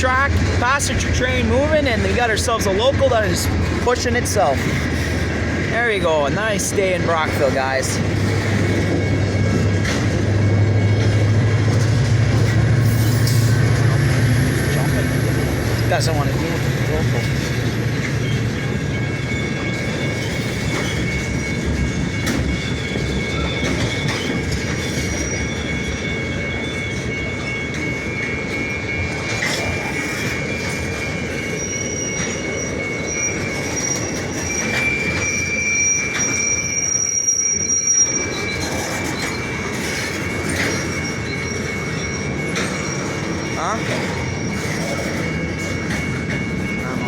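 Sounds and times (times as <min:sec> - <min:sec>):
train rumbling: 0:00.0 - 0:47.0
wheels squealing on rails: 0:00.0 - 0:47.0.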